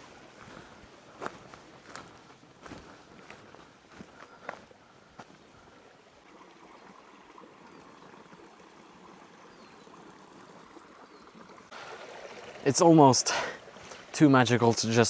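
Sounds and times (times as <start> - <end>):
brook trickling: 0.0 - 15.0.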